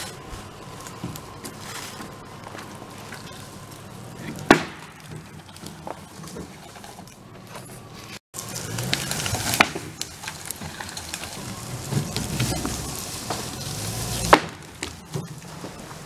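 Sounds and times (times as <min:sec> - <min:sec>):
log cracking and scraping on dirt: 0:00.0 - 0:16.0
pickup truck engine: 0:00.0 - 0:16.0.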